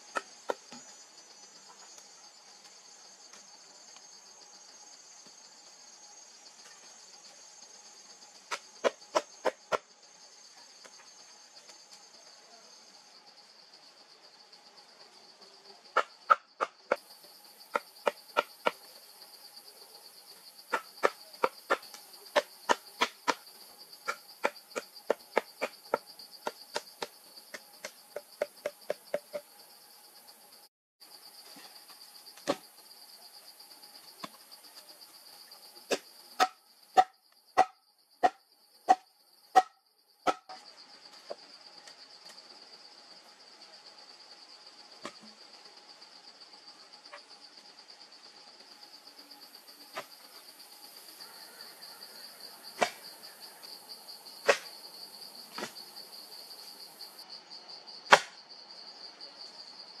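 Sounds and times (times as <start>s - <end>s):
insect drone: 0.0s - 60.0s.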